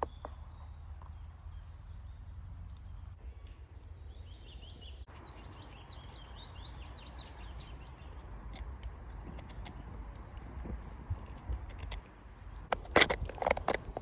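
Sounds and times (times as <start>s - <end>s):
songbird chirping: 0.0s - 12.8s.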